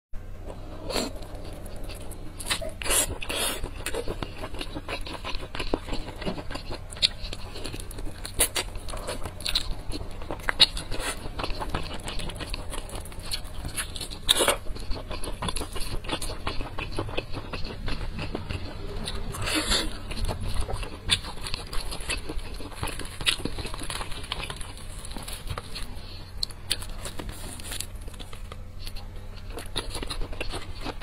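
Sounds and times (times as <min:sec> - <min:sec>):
crunching fried chicken: 0:00.5 - 0:31.0.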